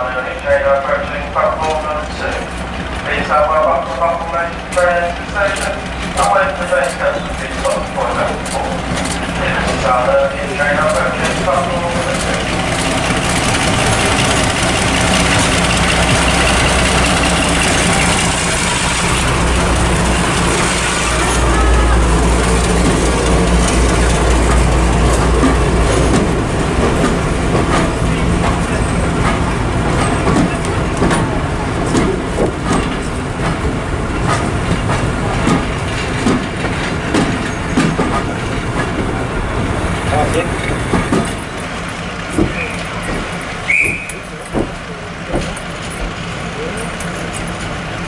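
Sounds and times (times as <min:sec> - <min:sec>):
diesel locomotive engines humming: 0:00.0 - 0:48.0
train wheels clicking over rail joints: 0:00.1 - 0:48.0.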